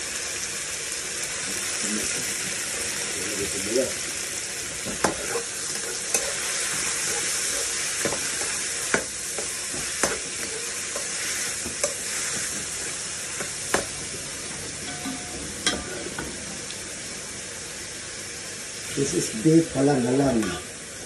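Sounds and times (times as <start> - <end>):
beef sizzling in a hot pan: 0.0 - 21.0.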